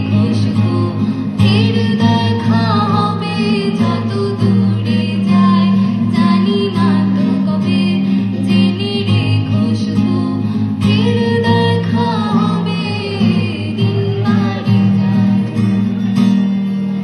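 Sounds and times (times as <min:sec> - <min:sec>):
woman singing: 0:00.0 - 0:16.0
acoustic guitars: 0:00.0 - 0:17.0.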